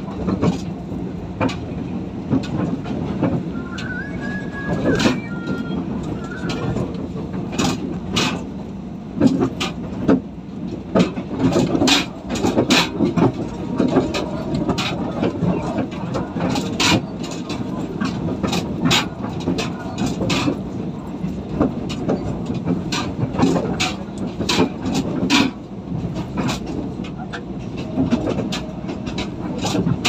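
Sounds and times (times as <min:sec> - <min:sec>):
train running rumble: 0:00.0 - 0:30.0
wheels clicking on track: 0:00.0 - 0:30.0.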